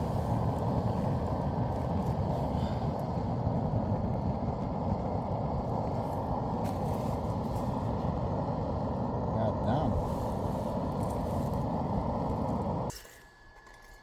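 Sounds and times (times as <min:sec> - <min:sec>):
twig stove flame rushing: 0:00.0 - 0:13.0.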